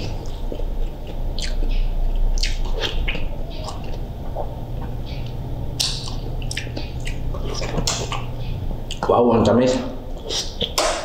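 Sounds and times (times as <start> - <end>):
person eating wet mouth sounds: 0.0 - 9.1, 10.1 - 11.0
lip smacks: 0.2 - 9.1, 10.2 - 11.0.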